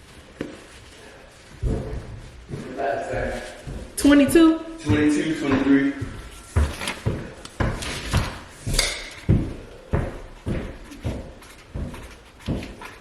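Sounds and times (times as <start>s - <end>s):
heavy footsteps on floor: 0.0s - 13.0s.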